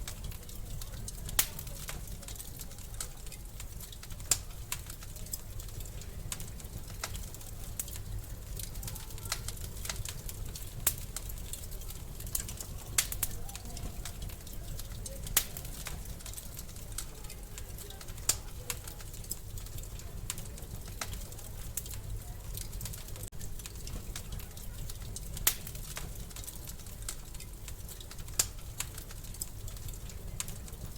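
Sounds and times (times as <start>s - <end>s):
low rumble of flame: 0.0s - 30.9s
sharp pops of burning wood: 0.0s - 30.9s
wood fire crackling: 0.0s - 30.9s.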